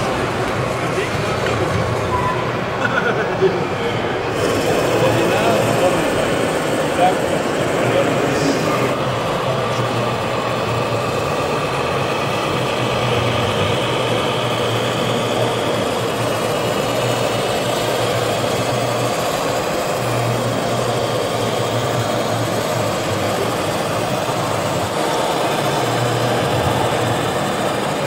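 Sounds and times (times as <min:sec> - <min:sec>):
busy hall background noise: 0:00.0 - 0:28.0
model truck engine drone: 0:00.0 - 0:28.0.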